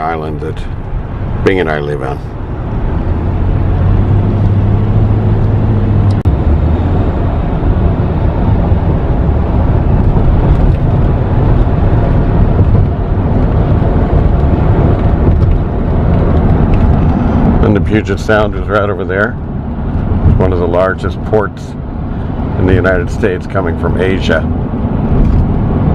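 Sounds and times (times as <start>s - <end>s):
car road noise from inside: 0.0s - 25.9s.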